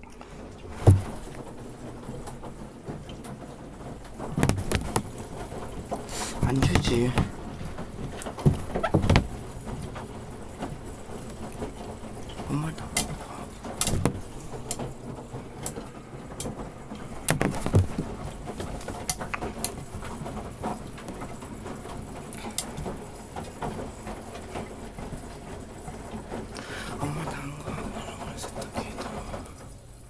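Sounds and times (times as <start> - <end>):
clicks and knocks from drum: 0.0 - 29.9
washing machine humming: 0.0 - 30.0.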